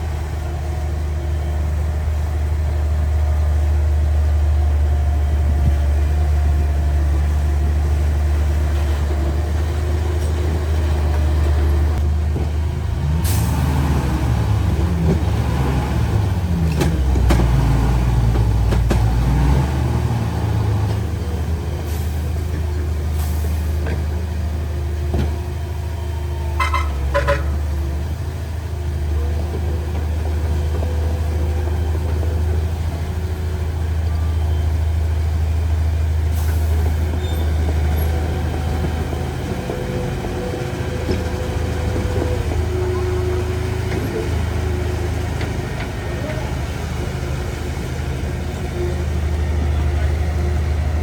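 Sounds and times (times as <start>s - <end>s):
heavy diesel engine droning: 0.0s - 51.0s.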